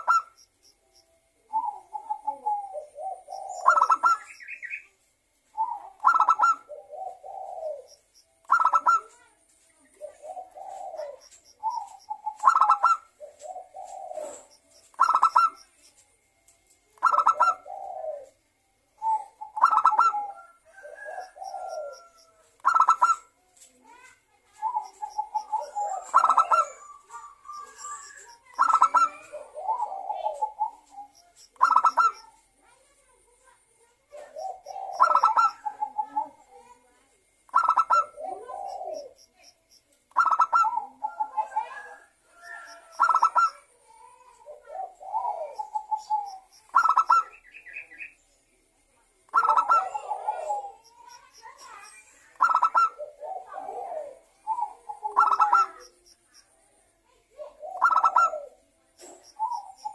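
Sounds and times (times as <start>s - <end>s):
dove cooing song: 0.0s - 4.9s, 5.5s - 16.1s, 16.8s - 32.5s, 34.0s - 48.2s, 49.2s - 56.8s, 57.4s - 59.9s.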